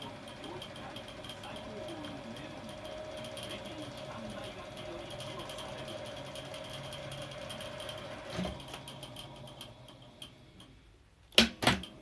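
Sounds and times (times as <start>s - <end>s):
fast even ticking of rollers: 0.0s - 10.8s
tape recorder mechanical whir: 0.0s - 12.0s.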